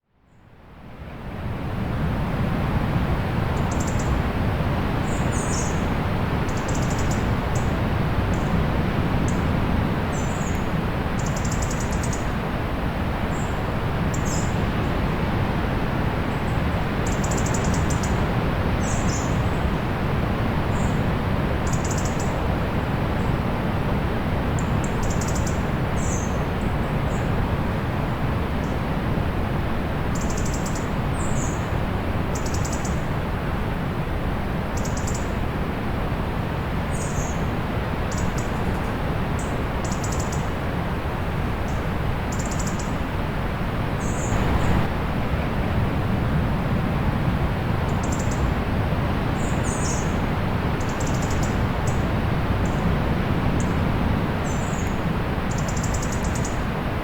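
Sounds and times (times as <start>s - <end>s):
distant sea surf rushing: 0.7s - 57.0s.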